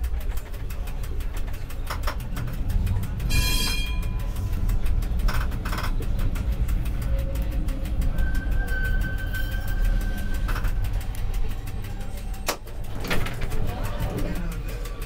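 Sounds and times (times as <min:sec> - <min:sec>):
tram rumbling over rails: 0:00.0 - 0:15.0.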